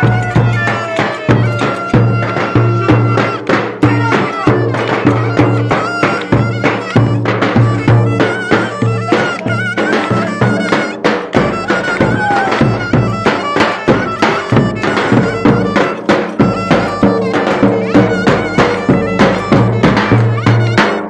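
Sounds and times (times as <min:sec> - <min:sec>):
folk dance music from live band: 0:00.0 - 0:21.0
ornamented wind instrument melody: 0:00.0 - 0:21.0
quick regular drum beat: 0:00.0 - 0:21.0.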